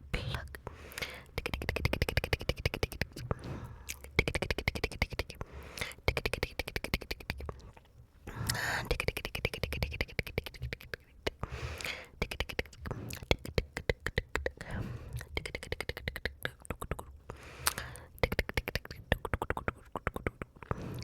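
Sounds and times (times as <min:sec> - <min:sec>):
breathy mouth sound: 0:00.0 - 0:21.0
tongue and lip clicks: 0:00.2 - 0:21.0.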